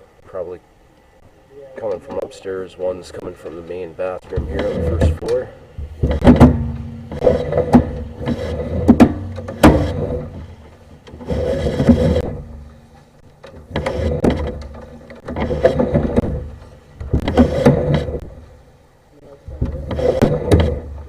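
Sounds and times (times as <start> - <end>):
sharp knocks and scraping: 1.8 - 18.6, 19.4 - 21.0.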